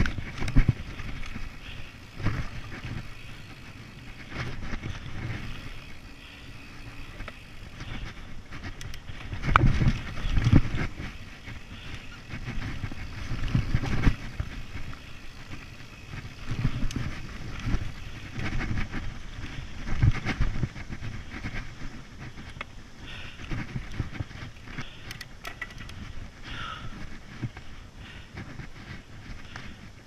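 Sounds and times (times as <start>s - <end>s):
bike rattling over bumps: 0.0s - 30.0s
tyres rumbling on rough ground: 0.0s - 30.0s
wind on microphone: 0.0s - 30.0s.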